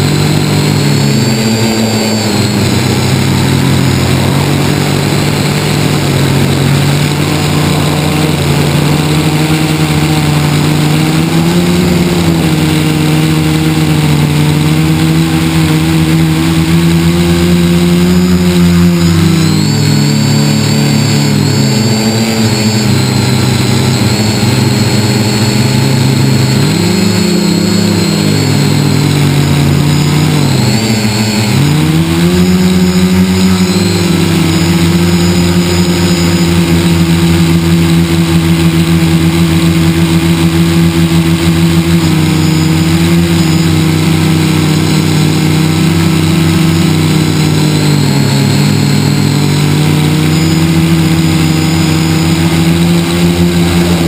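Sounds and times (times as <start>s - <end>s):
electric motors and propellers: 0.0s - 54.0s
faint high whine: 0.0s - 54.0s.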